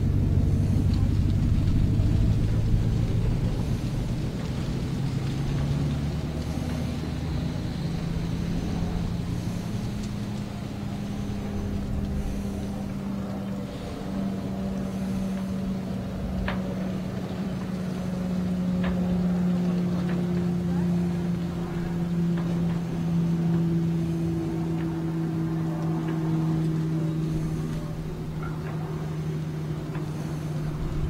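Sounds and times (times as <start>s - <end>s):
outboard boat engine idling: 0.0s - 31.0s.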